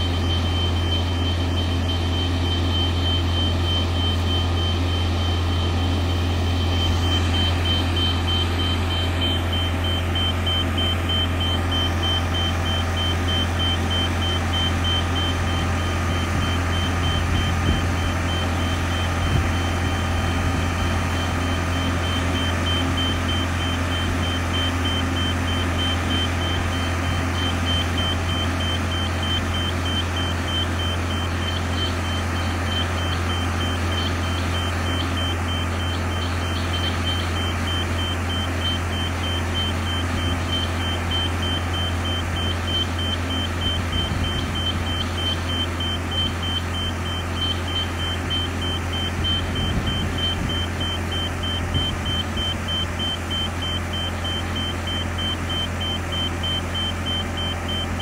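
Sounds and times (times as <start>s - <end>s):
engine low drone: 0.0s - 58.0s
rapid high-pitched warning beeps: 0.0s - 58.0s.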